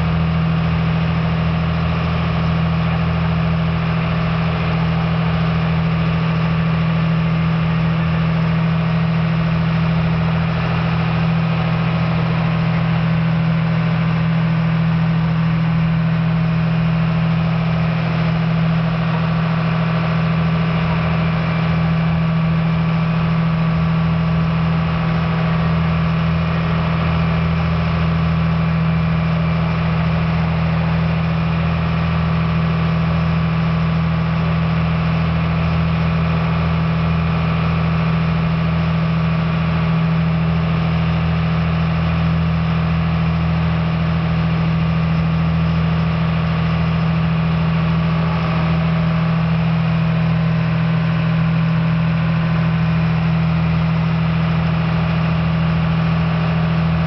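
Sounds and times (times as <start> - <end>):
ferry engine droning: 0.0 - 57.0.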